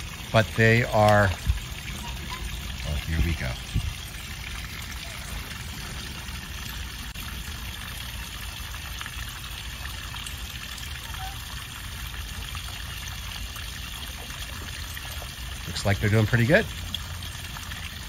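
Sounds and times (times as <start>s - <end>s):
water trickling into pond: 0.0s - 18.0s.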